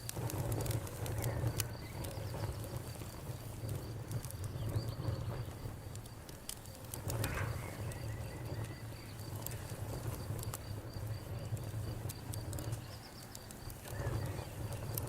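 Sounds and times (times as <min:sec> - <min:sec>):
campfire crackling and popping: 0:00.0 - 0:15.0
cricket chirping: 0:00.0 - 0:15.0.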